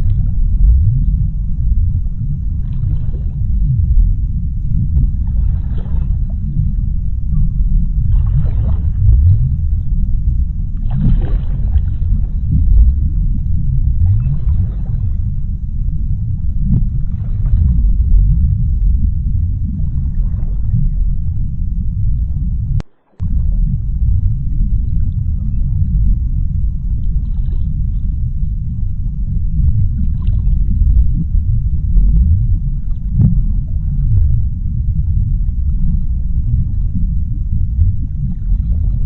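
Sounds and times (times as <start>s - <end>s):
underwater low rumble: 0.0s - 39.0s.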